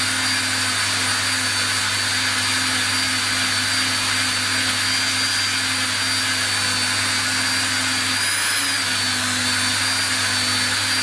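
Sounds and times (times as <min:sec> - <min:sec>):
rotary tool motor whine: 0:00.0 - 0:11.0.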